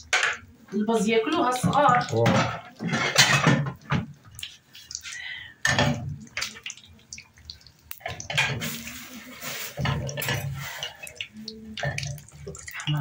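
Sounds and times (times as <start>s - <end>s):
pastry frying in oil: 0.0s - 13.0s.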